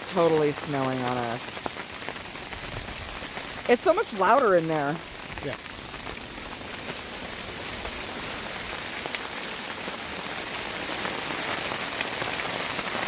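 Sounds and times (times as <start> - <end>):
hail and rain falling: 0.0 - 13.0.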